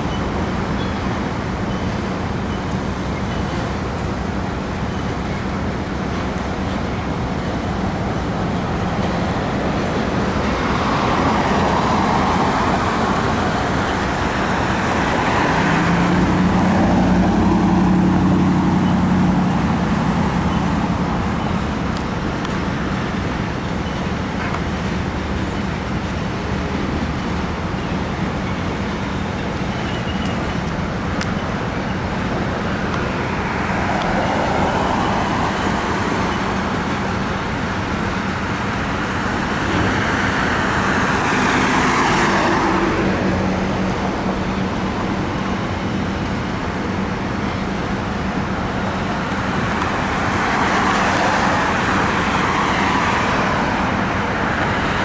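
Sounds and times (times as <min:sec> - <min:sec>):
train wheels on rail: 0:00.0 - 0:55.0
road vehicle passing: 0:05.5 - 0:29.7, 0:30.4 - 0:55.0.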